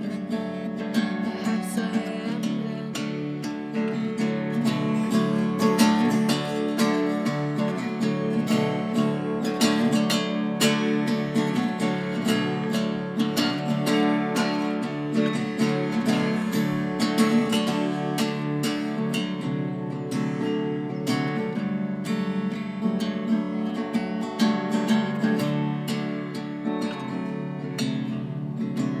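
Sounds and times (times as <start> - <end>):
acoustic guitar strummed: 0.0 - 29.0.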